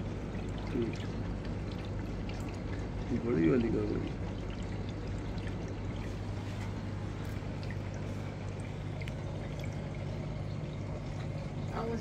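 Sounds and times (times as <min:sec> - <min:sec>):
low steady hum: 0:00.0 - 0:12.0
small water drips: 0:00.0 - 0:12.0
water trickling into tank: 0:00.0 - 0:12.0.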